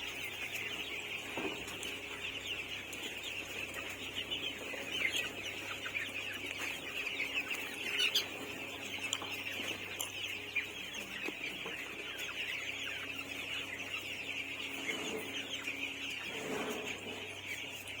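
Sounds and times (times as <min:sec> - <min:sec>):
flock of chickens calling: 0:00.0 - 0:18.0.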